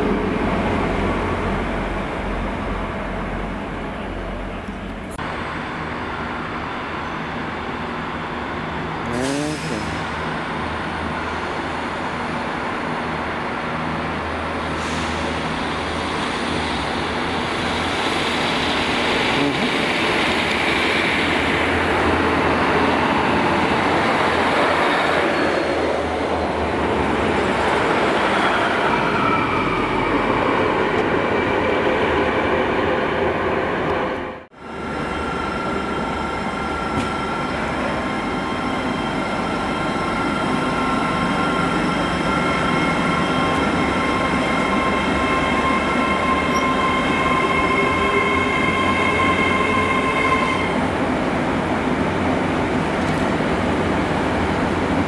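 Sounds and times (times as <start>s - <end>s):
diesel train passing: 0.0s - 55.0s.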